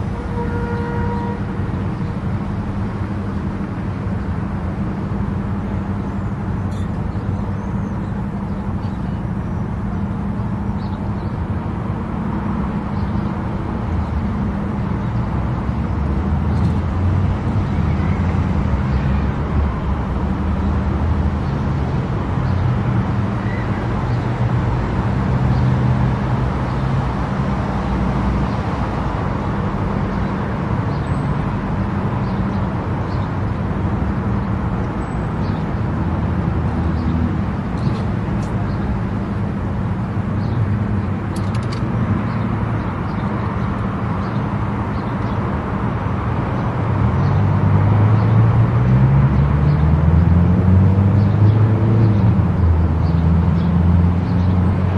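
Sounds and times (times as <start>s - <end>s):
car driving at highway speed: 0.0s - 54.9s.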